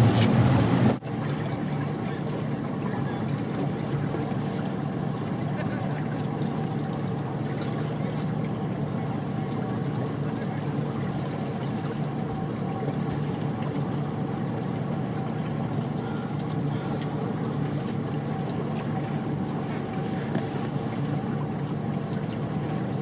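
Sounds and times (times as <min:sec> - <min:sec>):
motorboat engine humming: 0:00.0 - 0:23.0.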